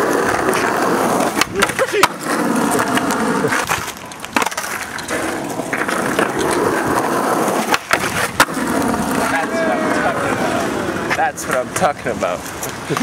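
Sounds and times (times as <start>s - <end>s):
skateboard wheels on asphalt: 0.0s - 13.0s.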